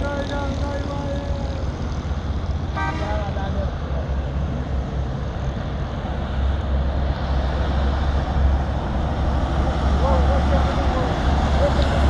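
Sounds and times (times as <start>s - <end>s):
road and wind noise: 0.0s - 12.0s
vehicle low rumble: 0.0s - 12.0s.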